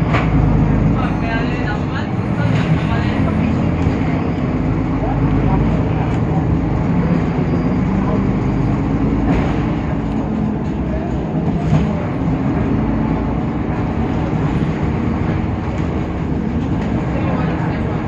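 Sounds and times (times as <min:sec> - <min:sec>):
bus body rattling: 0:00.0 - 0:18.0
bus diesel engine running: 0:00.0 - 0:18.0
road noise: 0:00.0 - 0:18.0.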